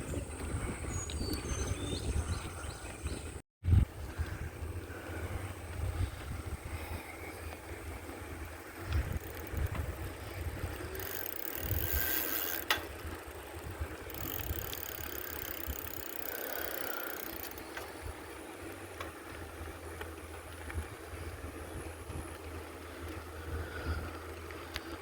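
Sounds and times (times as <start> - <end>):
wind buffeting microphone: 0.0 - 16.3, 17.1 - 25.0
bicycle riding noise: 0.0 - 25.0.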